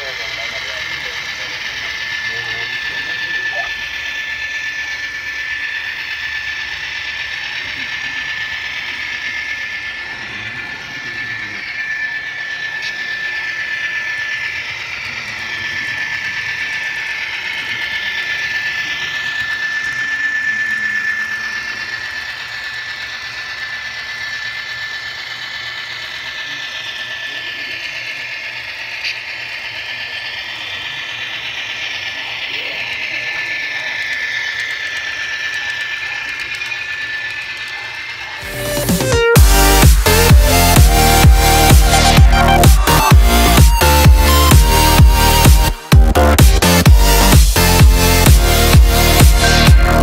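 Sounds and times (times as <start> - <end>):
model train high whine: 0.0 - 50.0
wheels rattling on rails: 0.0 - 50.0.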